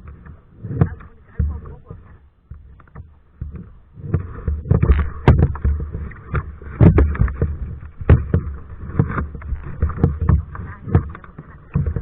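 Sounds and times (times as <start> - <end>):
paddle splashing in water: 0.0 - 12.0
sharp knocks: 0.7 - 12.0.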